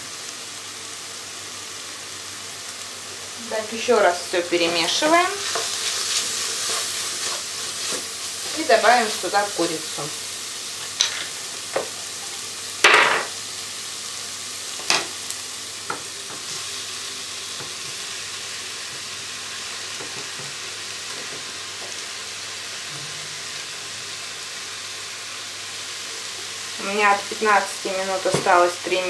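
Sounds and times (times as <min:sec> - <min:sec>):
mushrooms sizzling in a cooker bowl: 0:00.0 - 0:29.0.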